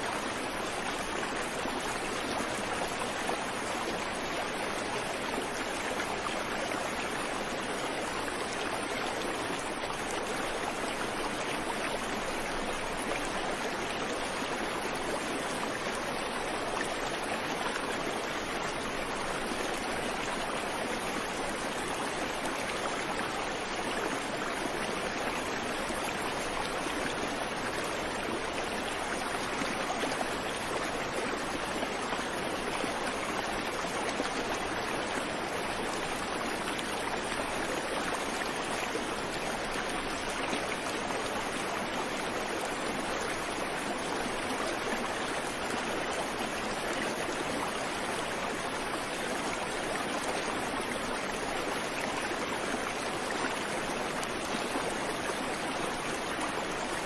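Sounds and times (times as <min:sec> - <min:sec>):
creek water over rocks: 0:00.0 - 0:57.0.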